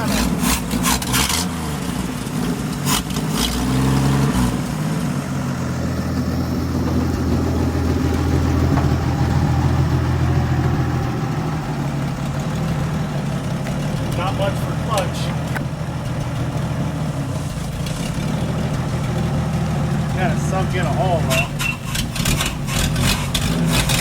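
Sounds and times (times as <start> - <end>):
truck engine revving and running: 0.0 - 24.0.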